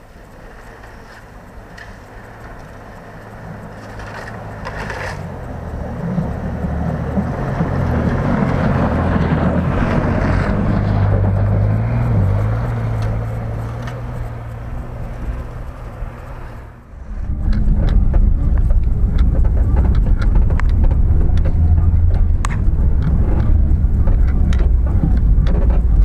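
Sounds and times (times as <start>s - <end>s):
car engine approaching: 0.0s - 26.0s.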